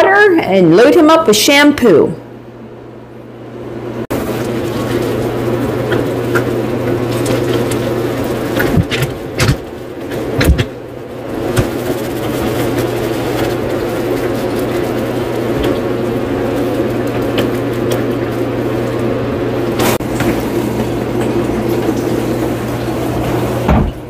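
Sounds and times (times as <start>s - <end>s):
motor hum: 2.3s - 24.0s.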